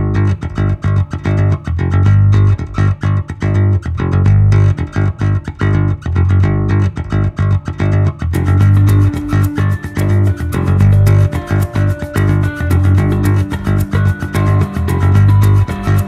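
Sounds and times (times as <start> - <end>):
plucked bass and guitar music: 0.0 - 16.0.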